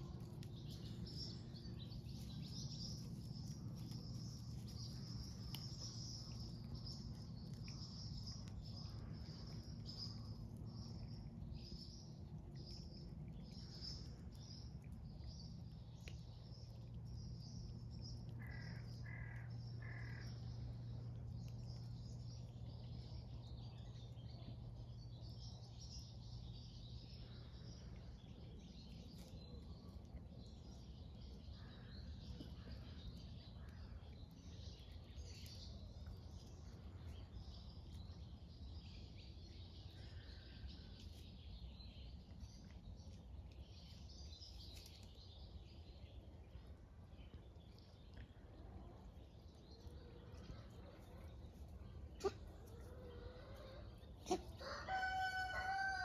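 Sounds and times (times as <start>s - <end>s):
birds chirping: 0.0s - 56.0s
low steady hum: 0.0s - 56.0s.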